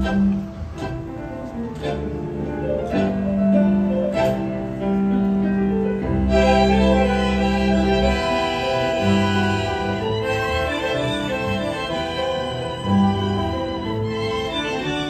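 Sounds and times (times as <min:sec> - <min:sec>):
tango orchestra playing: 0:00.0 - 0:15.0.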